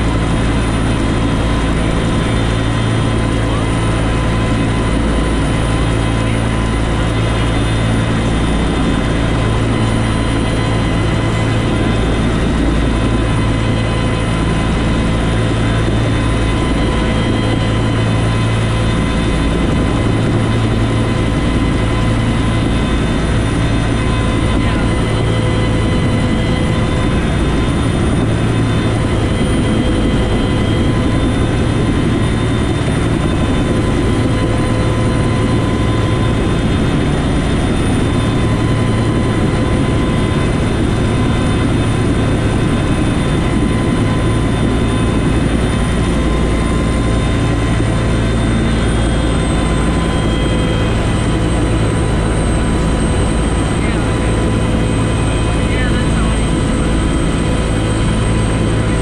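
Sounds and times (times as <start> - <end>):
helicopter main rotor throb: 0.0 - 59.0
helicopter turbine whine: 0.0 - 59.0.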